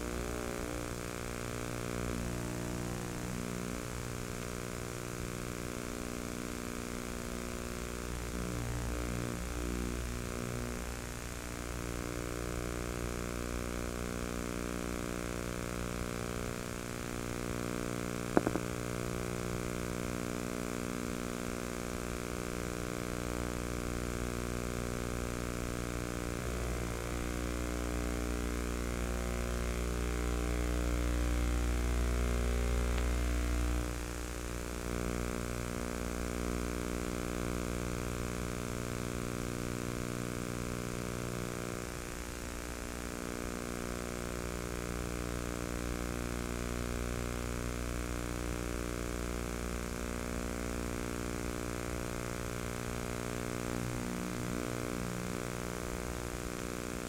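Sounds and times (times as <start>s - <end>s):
steady droning hum: 0.0s - 43.7s, 44.3s - 57.0s.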